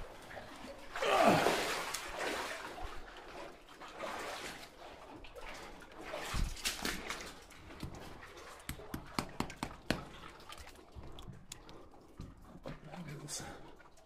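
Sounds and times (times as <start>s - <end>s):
legs wading through water: 0.0s - 14.0s.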